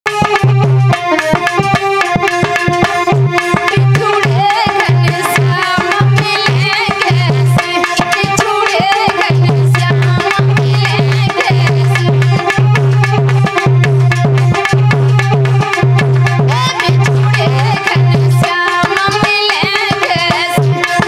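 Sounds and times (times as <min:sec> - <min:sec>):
fast hand drum rhythm: 0:00.1 - 0:21.0
folk dance music: 0:00.1 - 0:21.0.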